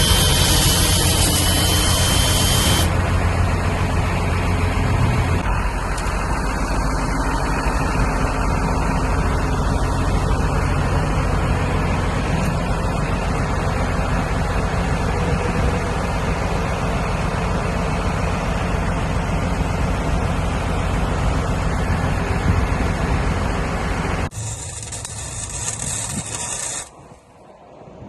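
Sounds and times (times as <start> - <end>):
vehicle rumble: 0.0 - 28.0.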